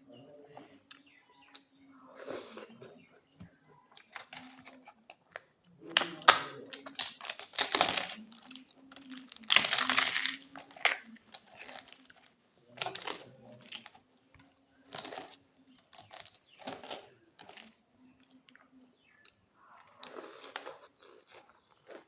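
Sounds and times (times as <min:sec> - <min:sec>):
food being chewed: 0:00.5 - 0:22.0.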